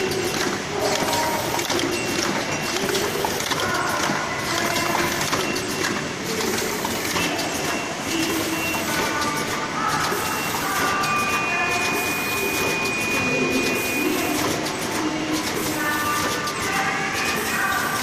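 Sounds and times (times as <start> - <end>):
machine clattering clicks: 0.0 - 18.0.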